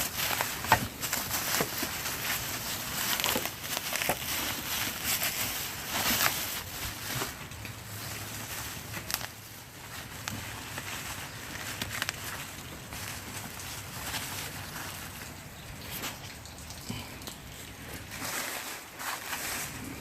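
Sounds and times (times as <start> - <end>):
plastic wrapping crinkling: 0.0 - 20.0.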